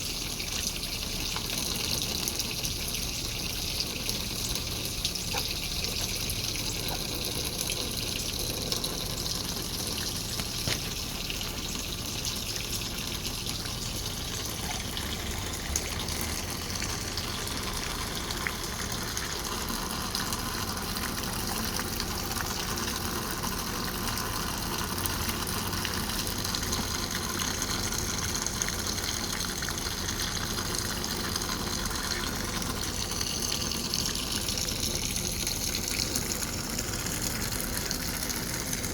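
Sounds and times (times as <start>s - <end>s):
small splashes: 0.0s - 38.9s
water gushing: 0.0s - 38.9s.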